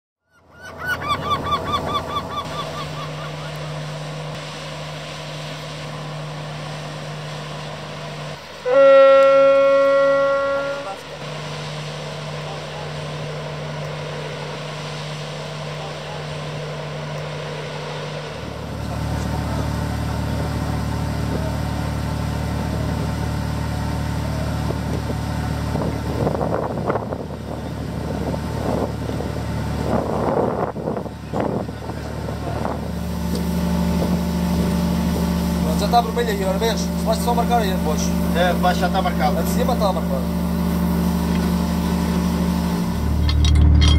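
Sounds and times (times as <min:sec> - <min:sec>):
boat engine drone: 0:00.2 - 0:43.9
ship's horn blast: 0:01.6 - 0:43.9.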